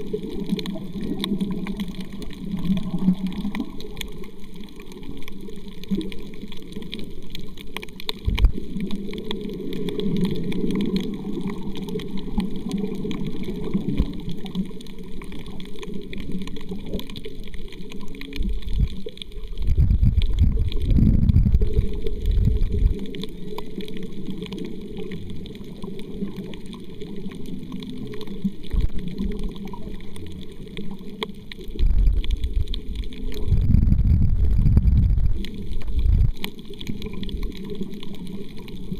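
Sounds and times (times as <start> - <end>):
underwater rushing and gurgling: 0.0 - 38.9.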